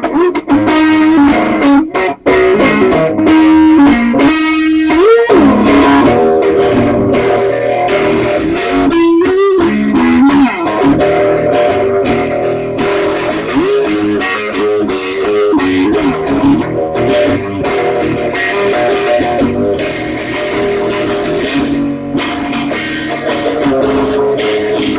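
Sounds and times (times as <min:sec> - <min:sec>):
electric guitar music with bass: 0:00.0 - 0:24.9.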